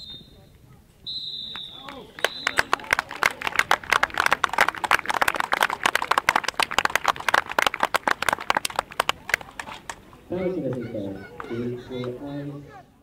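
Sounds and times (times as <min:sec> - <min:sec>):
crowd clapping: 0:01.5 - 0:12.2.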